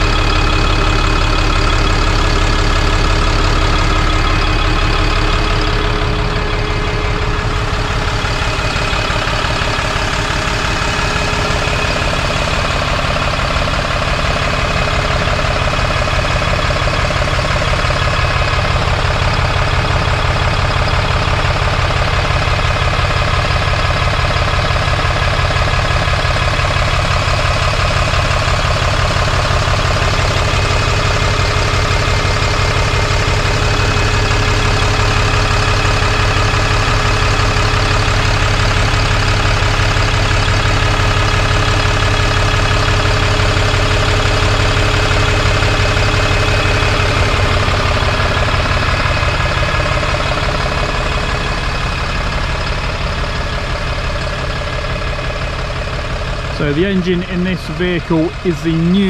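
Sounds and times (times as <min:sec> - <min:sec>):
diesel bus engine idling: 0:00.0 - 0:59.0.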